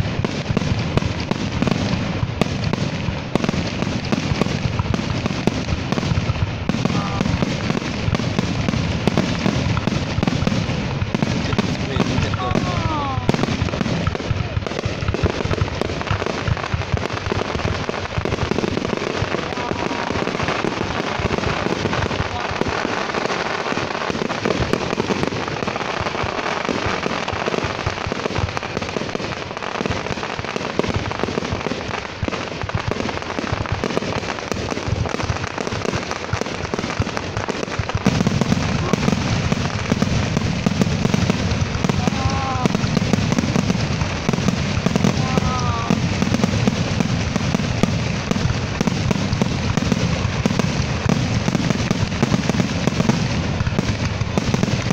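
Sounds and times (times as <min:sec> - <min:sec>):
fireworks bangs and crackles: 0:00.0 - 0:54.9
low firework booms: 0:00.0 - 0:54.9.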